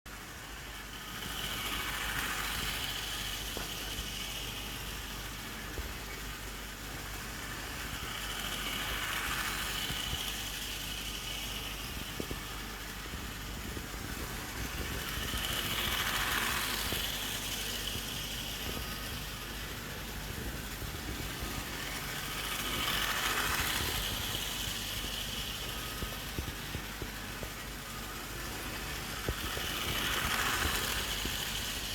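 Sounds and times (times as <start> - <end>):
model train motor whirring: 0.1 - 31.9
wheels on rails: 0.1 - 31.9.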